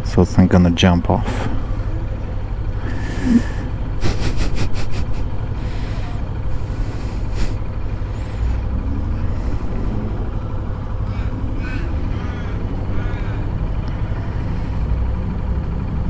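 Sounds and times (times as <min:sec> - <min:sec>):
motorcycle engine idling: 0:00.1 - 0:16.0.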